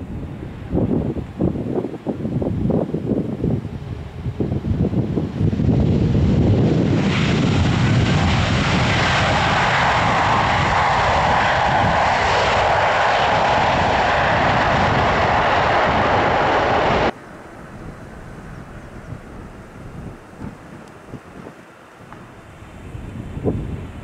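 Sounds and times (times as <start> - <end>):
airliner engines rumbling: 0.0 - 24.0
wind noise on microphone: 0.0 - 24.0.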